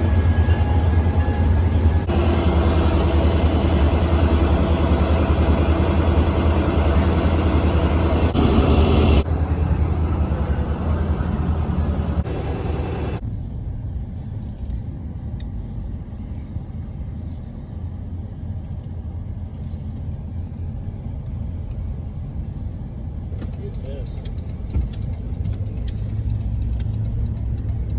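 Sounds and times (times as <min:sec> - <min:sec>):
heavy vehicle rumbling: 0:00.0 - 0:27.9.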